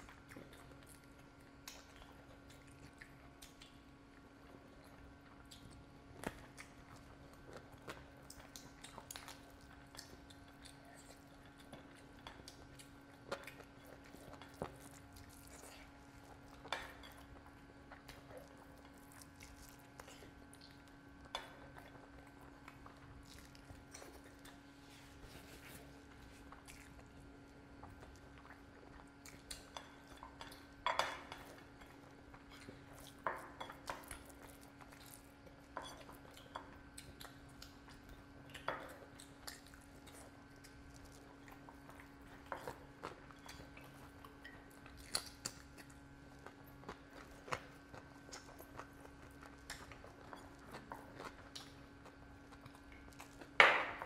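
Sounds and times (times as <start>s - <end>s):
chewing: 0.0s - 54.0s
faint steady hum: 0.0s - 54.0s.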